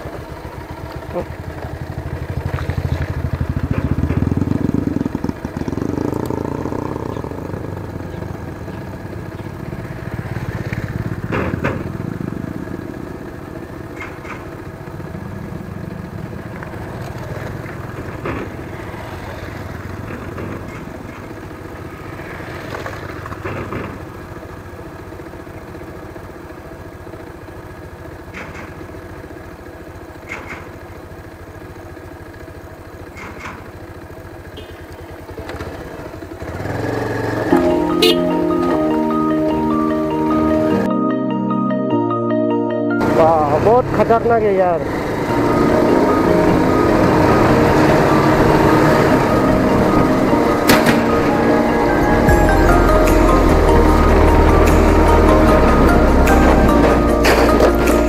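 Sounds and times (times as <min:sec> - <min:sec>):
motorcycle engine running: 0:00.0 - 0:40.9, 0:43.0 - 0:58.0.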